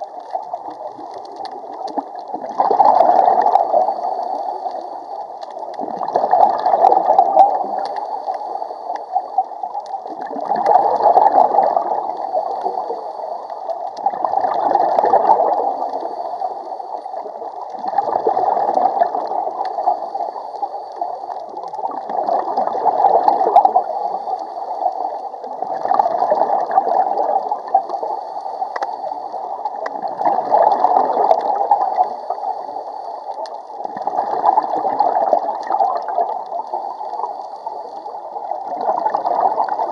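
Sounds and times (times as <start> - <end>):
gurgling exhaled bubbles: 0.0 - 39.9.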